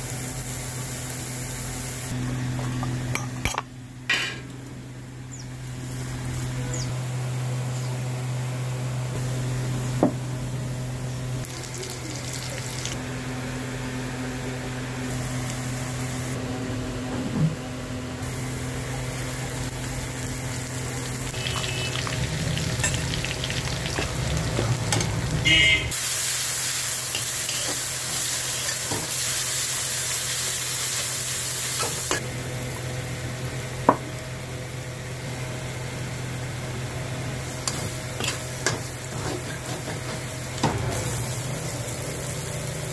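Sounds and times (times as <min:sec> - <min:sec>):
onions sizzling in hot oil: 0:00.0 - 0:02.2, 0:05.3 - 0:14.0, 0:14.7 - 0:16.4, 0:18.2 - 0:42.9.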